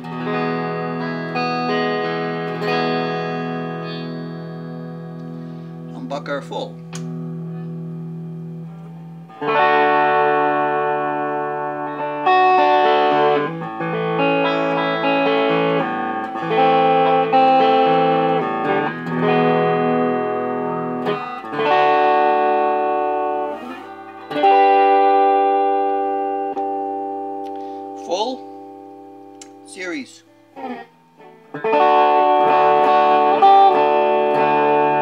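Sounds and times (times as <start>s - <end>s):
electric guitar strummed chords: 0.0s - 35.0s.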